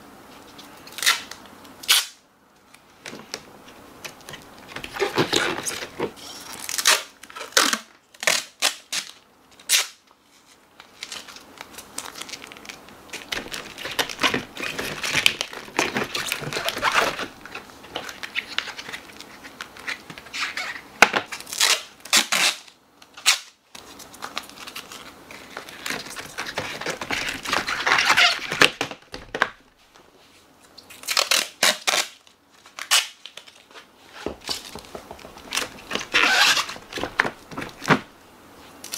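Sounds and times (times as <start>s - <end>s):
tape crinkling and rubbing: 0.3s - 38.9s
packing tape ripping off roll: 0.8s - 2.2s, 4.0s - 10.0s, 10.8s - 29.6s, 30.8s - 38.1s.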